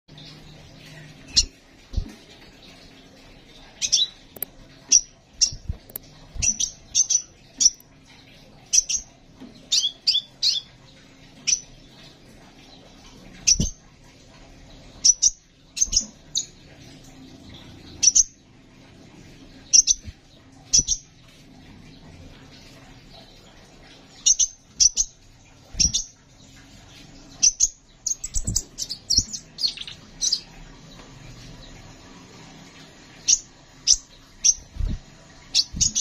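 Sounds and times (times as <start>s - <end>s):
bird chirping: 0.1s - 13.9s, 14.7s - 18.5s, 19.5s - 21.2s, 21.8s - 31.9s, 33.1s - 36.0s.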